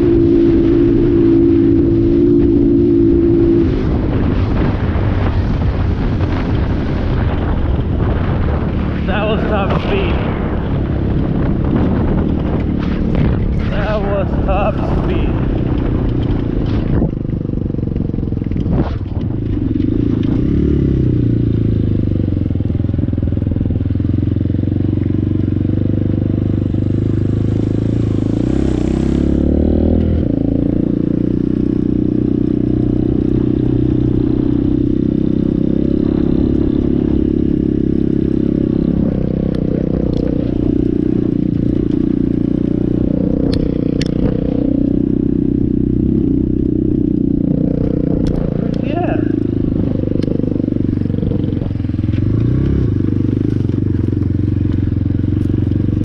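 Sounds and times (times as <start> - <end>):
dirt bike engine revving: 0.0 - 22.4, 23.5 - 56.0.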